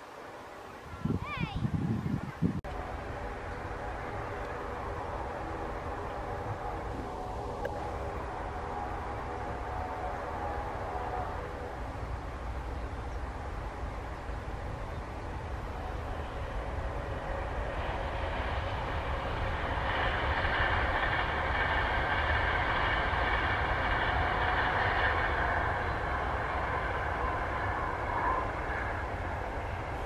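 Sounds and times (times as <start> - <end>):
low rumble: 1.1 - 30.0
jet engines whining: 2.3 - 30.0.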